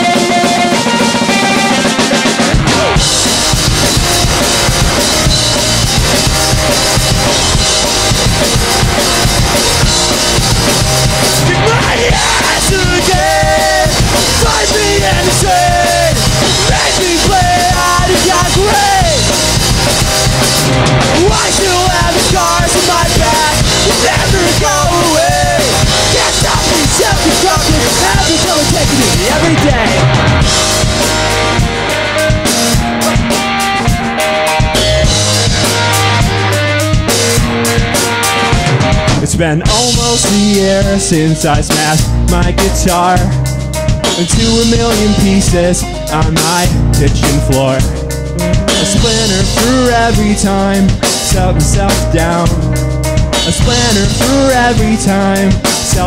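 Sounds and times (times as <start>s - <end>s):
bending lead guitar line: 0.0s - 56.0s
electric guitar: 0.0s - 56.0s
rock band playing live: 0.0s - 56.0s.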